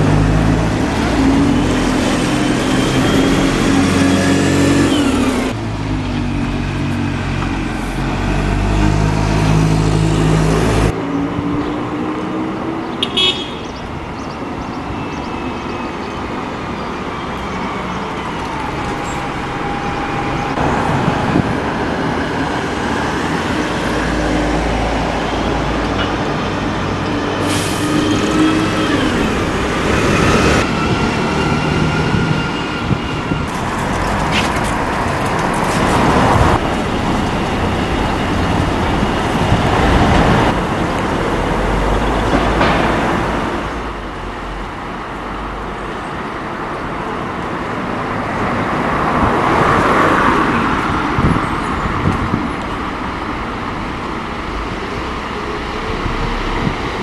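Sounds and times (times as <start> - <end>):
bus approaching: 0.0 - 57.0
bus diesel engines whining: 0.0 - 57.0
town traffic: 0.0 - 57.0.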